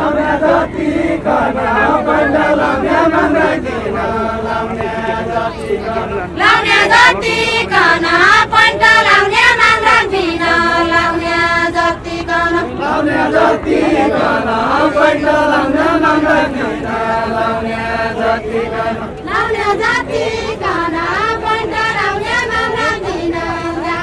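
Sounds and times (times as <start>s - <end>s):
voices chanting slow melody: 0.0s - 24.0s.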